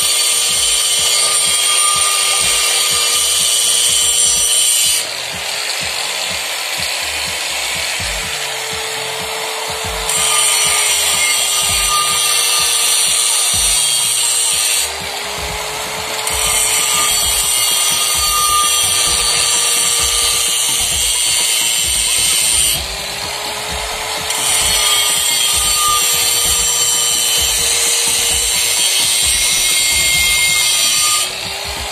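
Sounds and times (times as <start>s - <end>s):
angle grinder grinding metal: 0.0s - 31.9s.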